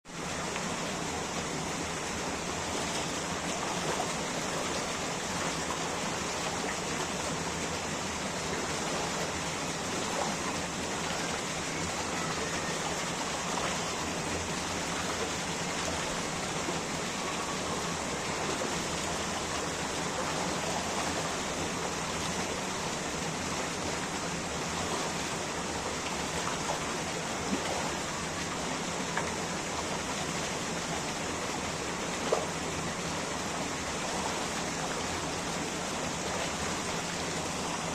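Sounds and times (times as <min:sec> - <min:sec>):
running water rushing: 0:00.0 - 0:37.9
water splashes: 0:00.1 - 0:37.9.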